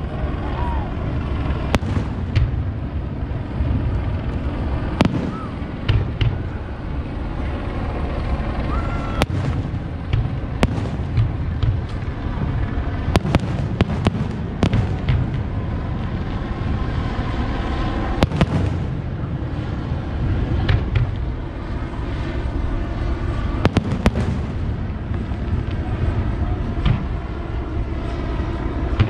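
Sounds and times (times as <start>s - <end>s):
low rumble: 0.0s - 29.0s
fireworks bursting: 1.5s - 6.7s, 8.9s - 27.4s.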